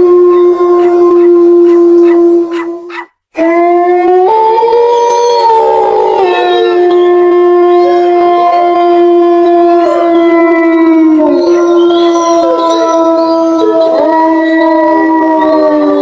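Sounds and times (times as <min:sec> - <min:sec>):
dogs howling: 0:00.0 - 0:16.0.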